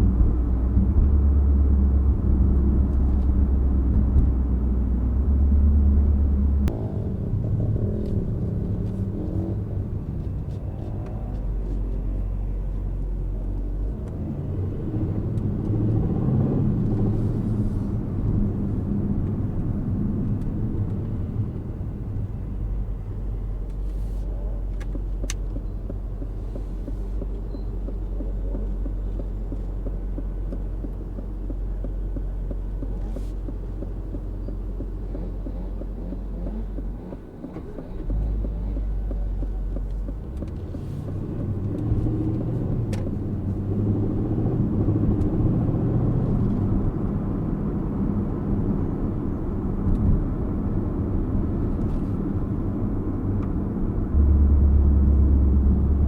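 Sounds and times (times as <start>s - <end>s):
car engine cruising: 0.0s - 56.0s
road rumble: 0.0s - 56.0s.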